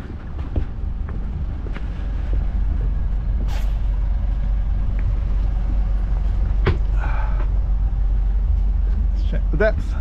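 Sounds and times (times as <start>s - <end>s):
boat engines rumbling: 0.0s - 10.0s.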